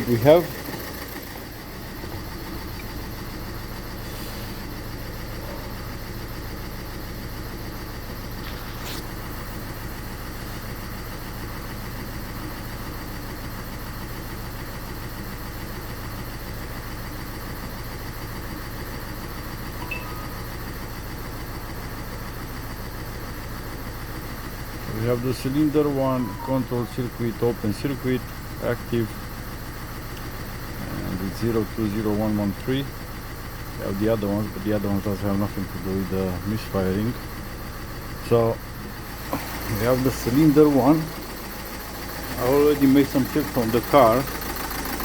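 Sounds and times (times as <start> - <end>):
diesel engine idling with misfire: 0.0 - 45.0.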